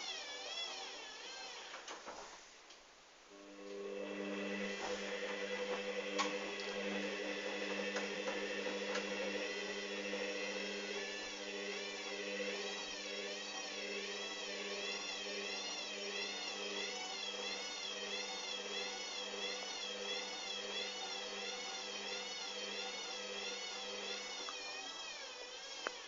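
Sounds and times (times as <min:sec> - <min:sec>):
washing machine motor whining: 0:00.0 - 0:02.3, 0:03.3 - 0:26.0
wavering high whine: 0:03.3 - 0:26.0.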